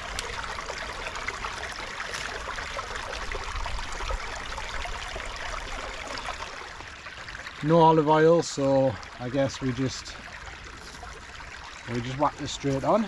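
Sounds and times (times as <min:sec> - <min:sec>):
small stream running: 0:00.0 - 0:13.0.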